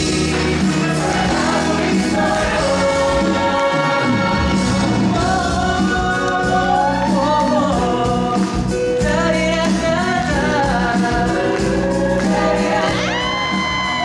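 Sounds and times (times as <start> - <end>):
voices singing along: 0.0 - 8.2, 9.9 - 14.0
man singing with accompaniment: 0.0 - 13.8.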